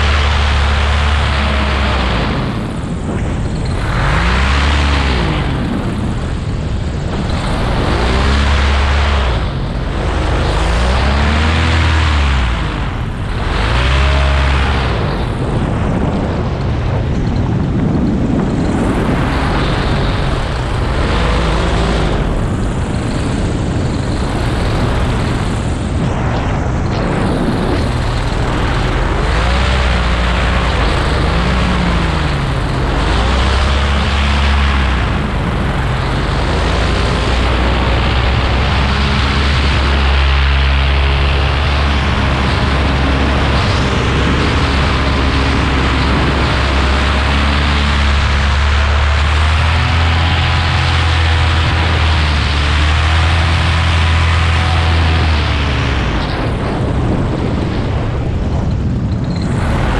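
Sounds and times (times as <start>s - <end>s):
paramotor engine and propeller: 0.0s - 59.9s
wind noise on microphone: 0.0s - 59.9s.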